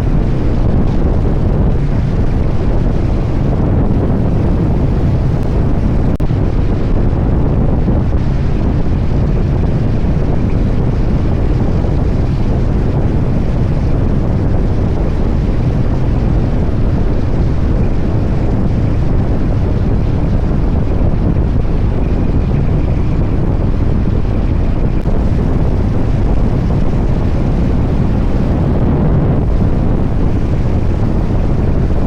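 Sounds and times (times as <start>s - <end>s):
motorcycle engine drone: 0.0s - 32.0s
wind buffeting microphone: 0.0s - 32.0s.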